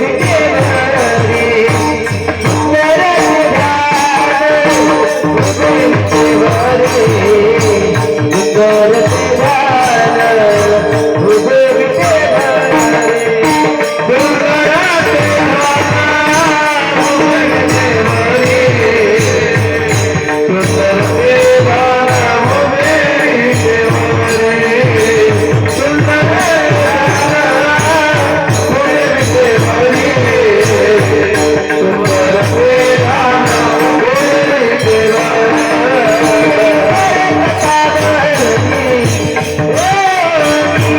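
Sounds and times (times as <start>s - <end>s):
drum beat: 0.0s - 40.9s
jingling hand cymbals: 0.0s - 40.9s.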